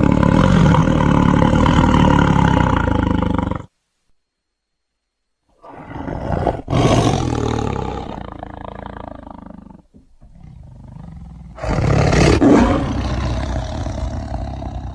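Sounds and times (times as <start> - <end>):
big cat roaring: 0.0 - 3.7, 5.6 - 14.9.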